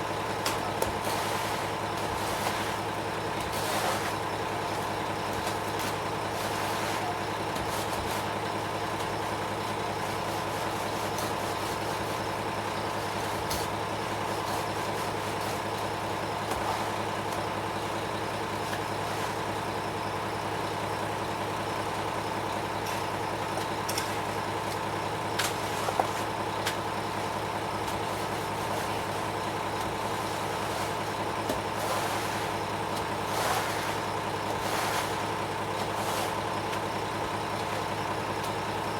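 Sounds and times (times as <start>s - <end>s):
truck engine humming: 0.0s - 38.9s.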